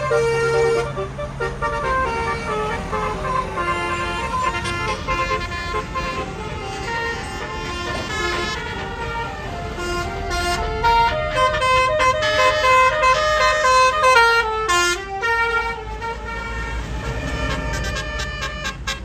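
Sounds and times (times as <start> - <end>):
bus engine running: 0.0 - 19.0
bus musical horn playing a tune: 0.0 - 19.0.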